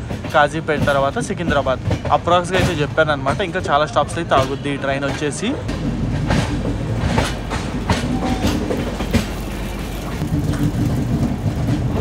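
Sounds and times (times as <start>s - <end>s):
train wheels rumbling on rail: 0.0s - 12.0s
wheels clacking over rail joints: 0.0s - 12.0s.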